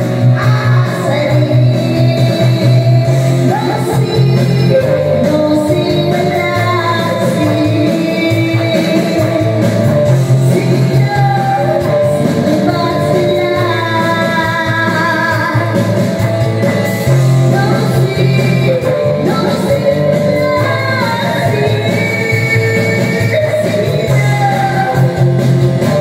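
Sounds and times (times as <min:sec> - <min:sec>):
backing track music: 0:00.0 - 0:26.0
woman singing karaoke: 0:00.0 - 0:26.0.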